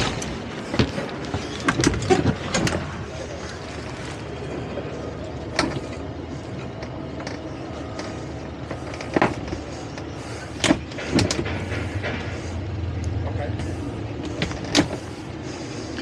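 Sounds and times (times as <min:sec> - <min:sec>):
outboard motors running: 0:00.0 - 0:16.0.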